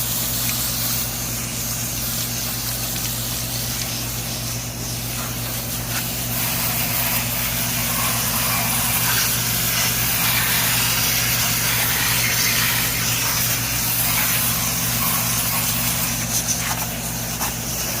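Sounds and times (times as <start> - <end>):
air conditioner humming: 0.0 - 18.0
constant hiss: 0.0 - 18.0.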